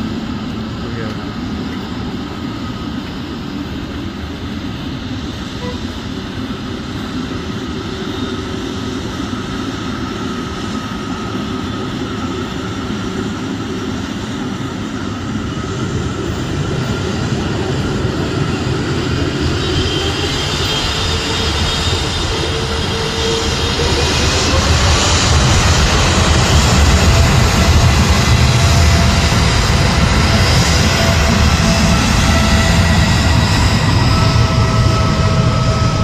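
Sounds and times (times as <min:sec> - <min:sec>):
jet engines running: 0:00.0 - 0:36.0.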